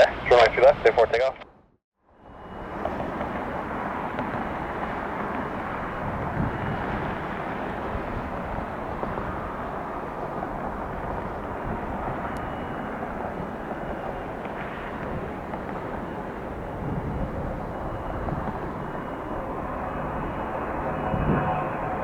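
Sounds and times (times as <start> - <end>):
jet engines rushing: 2.2 - 22.0.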